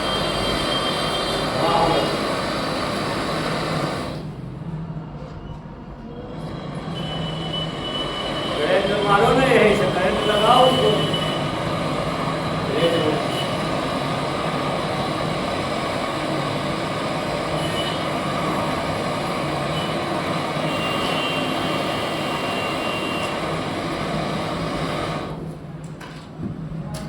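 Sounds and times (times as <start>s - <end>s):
mechanical running noise: 0.0s - 4.6s, 6.2s - 25.7s.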